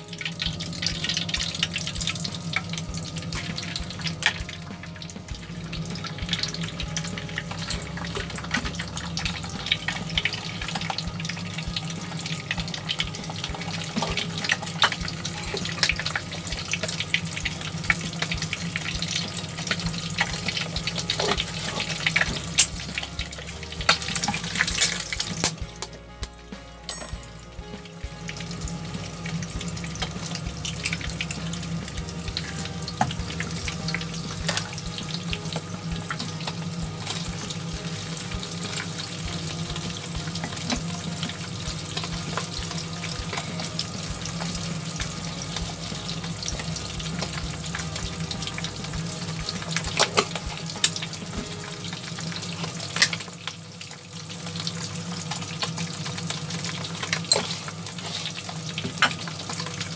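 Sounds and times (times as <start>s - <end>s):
egg sizzling in hot oil: 0.0s - 59.9s
oil crackling and popping: 0.0s - 59.9s.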